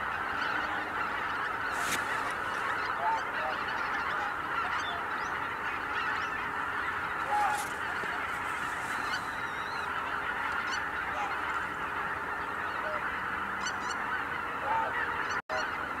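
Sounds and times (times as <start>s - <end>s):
flock of geese honking: 0.0s - 16.0s.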